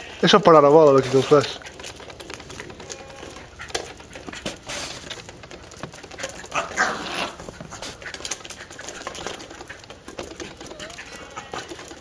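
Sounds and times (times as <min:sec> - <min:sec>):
small dog excited vocalizing: 0:01.6 - 0:12.0.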